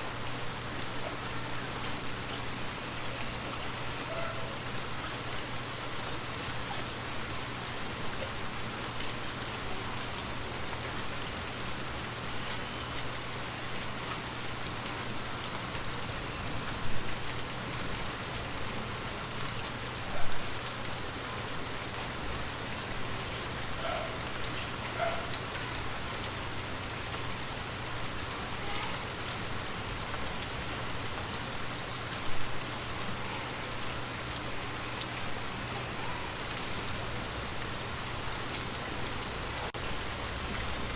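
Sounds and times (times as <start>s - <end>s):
rain falling on a surface: 0.0s - 40.9s.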